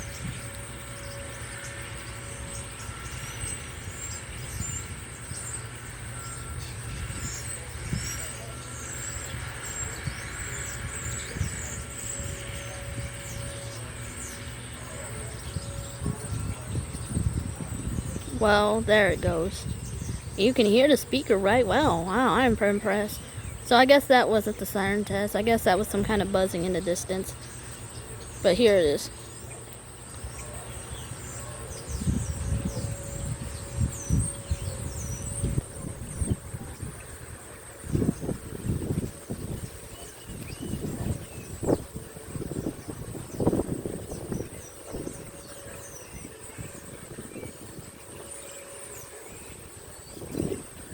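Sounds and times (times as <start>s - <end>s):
wind buffeting microphone: 0.0s - 29.1s, 31.0s - 50.9s
air conditioner hum: 0.0s - 50.9s
birds chirping: 0.0s - 50.9s
insects buzzing: 0.0s - 50.9s.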